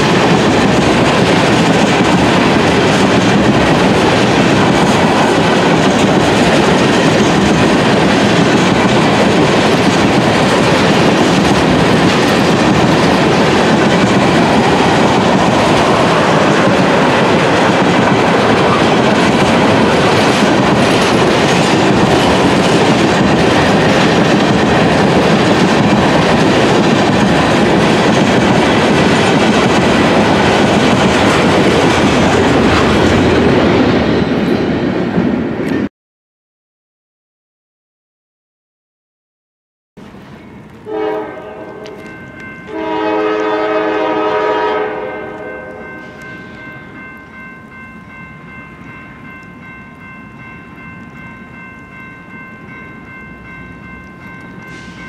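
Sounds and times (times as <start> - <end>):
train wheels running on rails: 0.0 - 35.9, 40.0 - 55.0.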